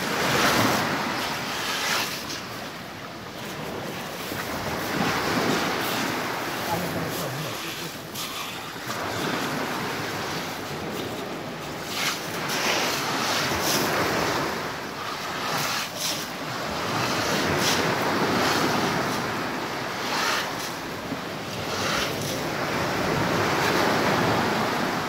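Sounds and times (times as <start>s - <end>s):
surf washing on pebble beach: 0.0s - 25.0s.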